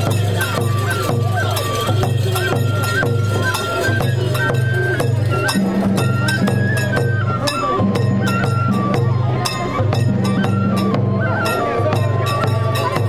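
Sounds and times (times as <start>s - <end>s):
high festival melody: 0.0s - 13.0s
percussion strikes: 0.0s - 13.0s.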